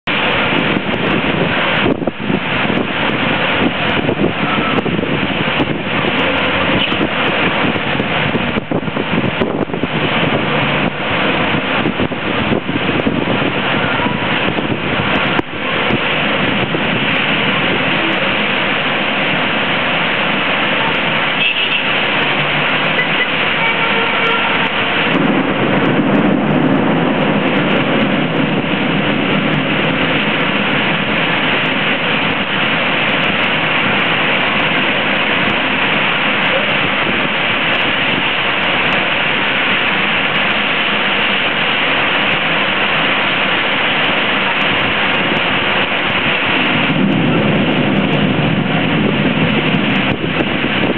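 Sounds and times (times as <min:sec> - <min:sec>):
car tyres hissing through water: 0:00.0 - 0:50.9
heavy rain pouring: 0:00.0 - 0:50.9.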